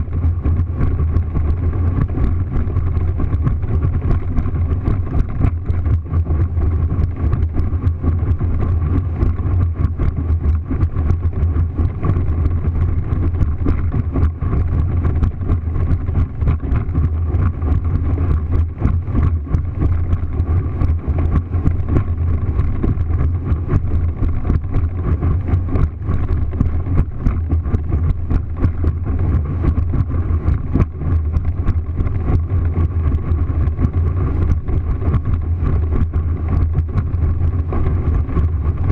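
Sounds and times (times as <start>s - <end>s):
hull knocking on waves: 0.0s - 38.9s
motorboat engine drone: 0.0s - 38.9s
wind on microphone: 0.0s - 38.9s.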